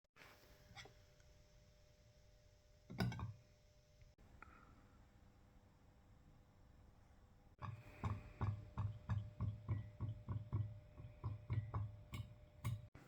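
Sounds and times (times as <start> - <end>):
faint steady hum: 0.2 - 13.0.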